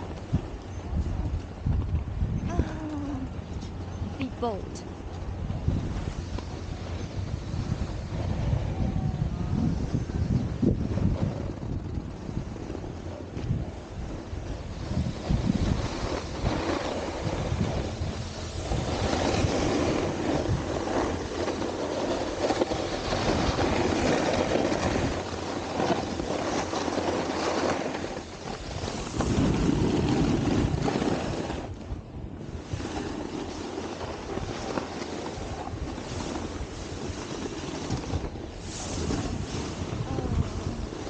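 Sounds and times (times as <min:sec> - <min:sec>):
wind buffeting microphone: 0:00.0 - 0:41.0
snowboard scraping over icy snow: 0:04.4 - 0:41.0.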